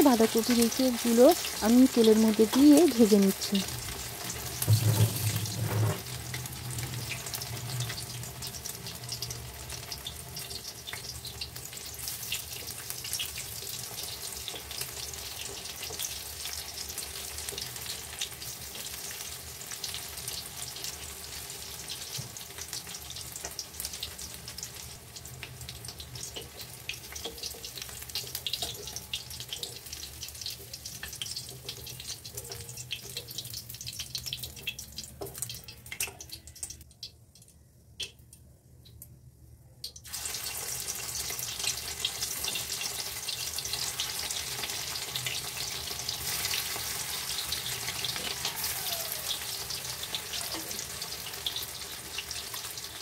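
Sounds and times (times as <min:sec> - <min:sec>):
deep-frying sizzling and crackling: 0:00.0 - 0:39.2, 0:39.8 - 0:53.0.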